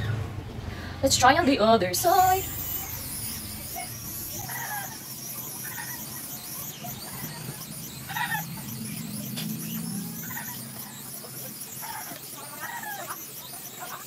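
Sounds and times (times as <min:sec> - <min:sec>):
electric shaver buzzing: 0:01.8 - 0:14.0
short high squeaks: 0:02.0 - 0:14.0.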